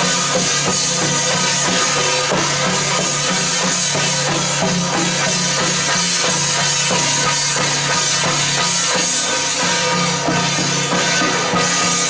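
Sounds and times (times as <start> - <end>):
drum beating quick rhythm: 0.0 - 12.0
hand cymbals clashing: 0.0 - 12.0.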